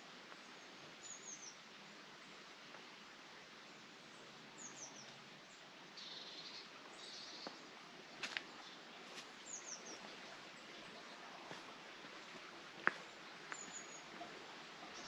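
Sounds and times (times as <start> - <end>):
small birds chirping: 0.3 - 2.4, 3.7 - 15.0.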